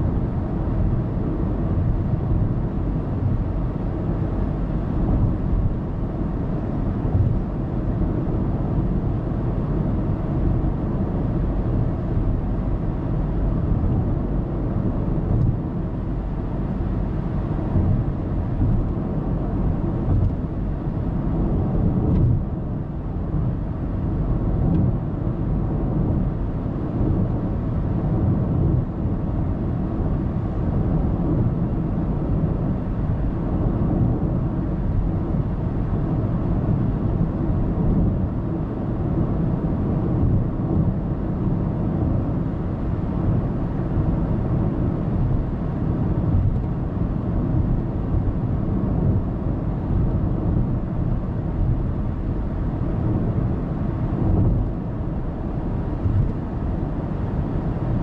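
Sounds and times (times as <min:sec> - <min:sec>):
car road noise from inside cabin: 0:00.0 - 0:58.0.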